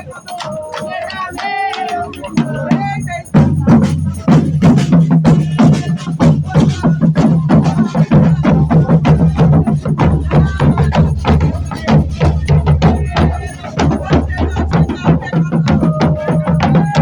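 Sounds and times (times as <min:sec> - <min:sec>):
rapid drum and percussion strikes: 0:00.0 - 0:17.0
steady low drum tone: 0:02.3 - 0:17.0.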